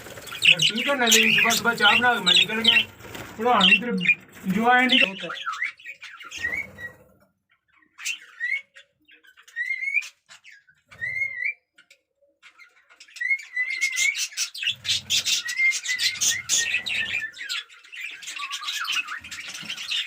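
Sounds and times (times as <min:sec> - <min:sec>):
budgerigars chirping: 0:00.0 - 0:20.0.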